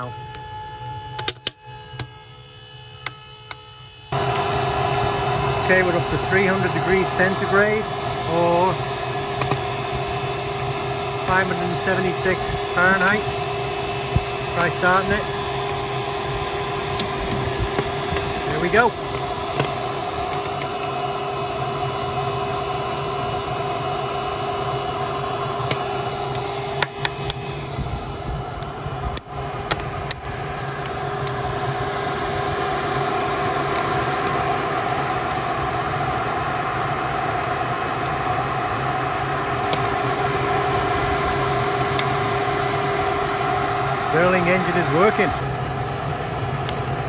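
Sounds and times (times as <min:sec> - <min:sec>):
engine machine hum: 0:00.0 - 0:47.0.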